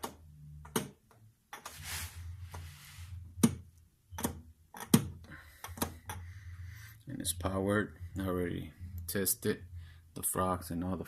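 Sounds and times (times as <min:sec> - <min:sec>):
faint low hum: 0:02.0 - 0:11.0.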